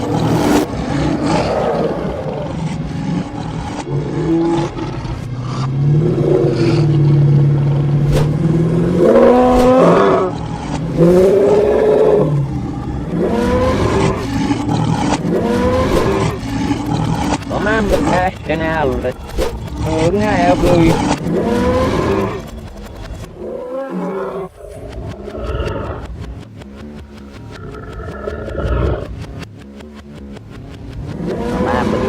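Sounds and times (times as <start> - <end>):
big cat roaring: 0.0 - 22.5, 23.3 - 26.2, 27.5 - 29.2, 31.2 - 32.0.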